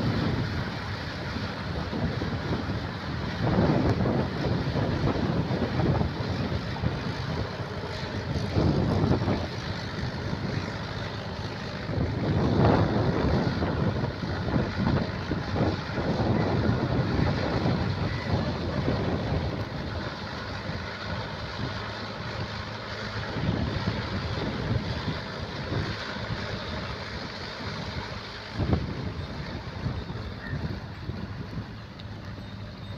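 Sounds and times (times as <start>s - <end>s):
tractor engine running: 0.0s - 32.9s
wind buffeting microphone: 0.0s - 32.9s.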